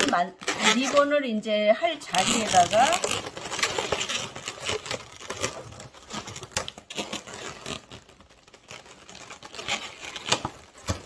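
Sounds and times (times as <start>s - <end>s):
balloons rubbing and squeaking: 0.0s - 11.0s.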